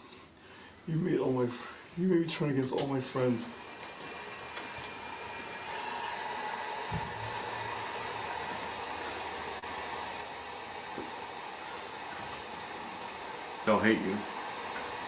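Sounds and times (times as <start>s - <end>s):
machine whirring: 2.6s - 15.0s.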